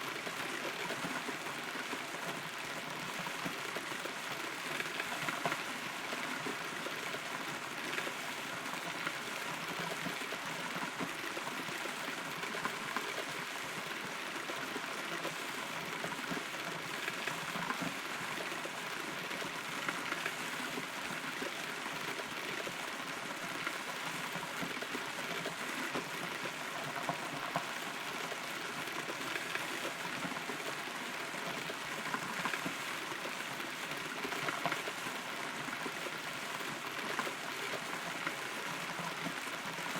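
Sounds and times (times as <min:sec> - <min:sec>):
rain patter: 0:00.0 - 0:39.9.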